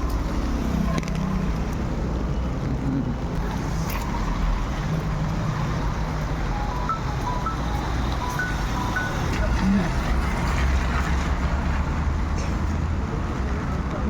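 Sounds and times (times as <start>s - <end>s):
car engine hum: 0.0s - 12.2s
road noise: 0.0s - 14.0s.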